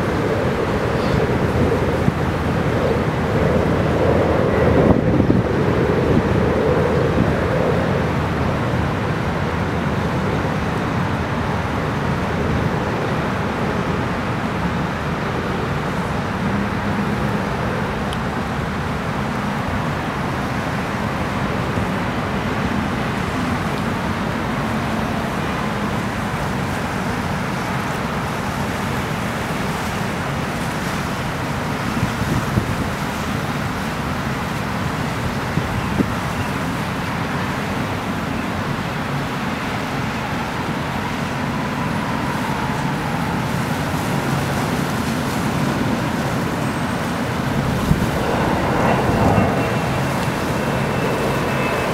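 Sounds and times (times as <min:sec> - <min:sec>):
boat engines rumbling: 0:00.0 - 0:51.9
water washing: 0:00.0 - 0:51.9.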